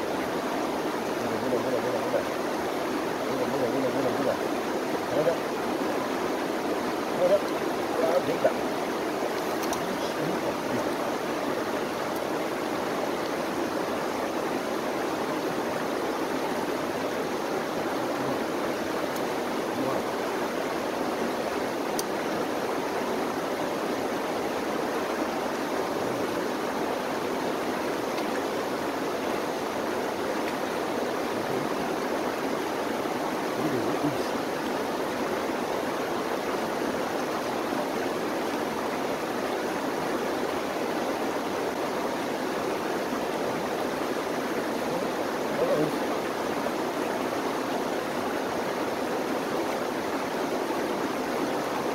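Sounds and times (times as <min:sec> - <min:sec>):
stream flowing over stones: 0:00.0 - 0:51.9.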